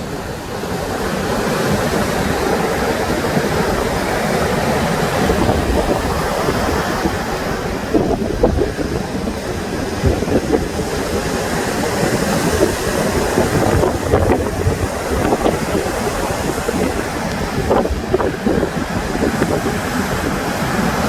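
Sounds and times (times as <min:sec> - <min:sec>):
sea waves washing on shore: 0:00.0 - 0:21.0
wind buffeting microphone: 0:00.0 - 0:21.0.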